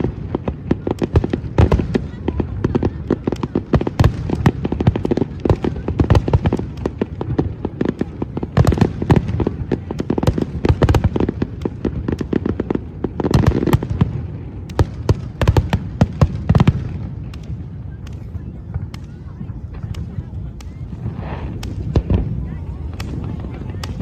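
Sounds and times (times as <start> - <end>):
fireworks bangs and crackles: 0.0 - 24.0
fireworks deep booms: 0.0 - 24.0.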